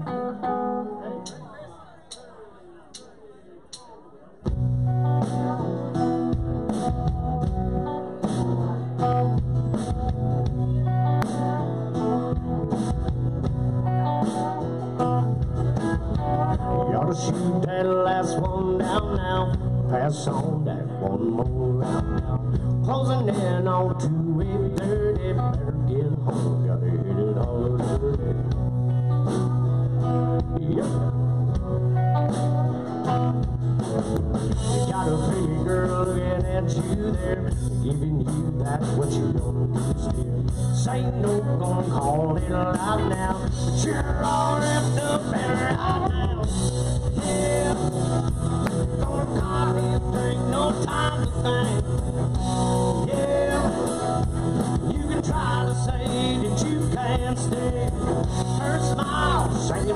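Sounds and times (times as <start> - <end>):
electric guitar: 0.0 - 1.6, 4.4 - 59.9
live country-rock band: 0.0 - 2.3, 3.7 - 59.9.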